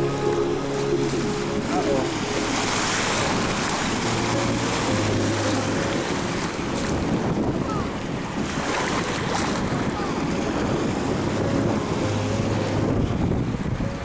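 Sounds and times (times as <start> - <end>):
small waves splashing: 0.0 - 14.0
wind buffeting microphone: 0.0 - 14.0.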